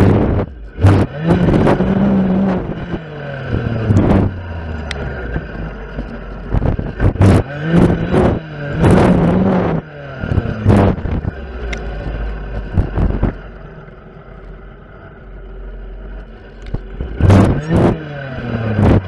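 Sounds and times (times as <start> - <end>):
clearing saw engine revving: 0.0 - 13.6, 16.1 - 19.0.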